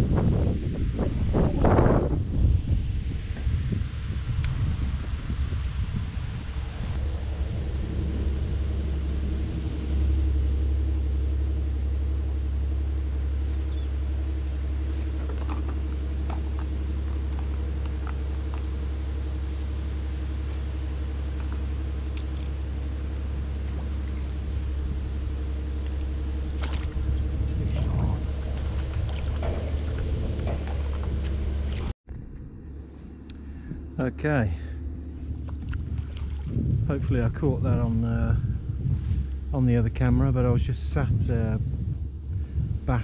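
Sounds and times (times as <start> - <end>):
distant diesel digger engine: 6.4 - 43.0.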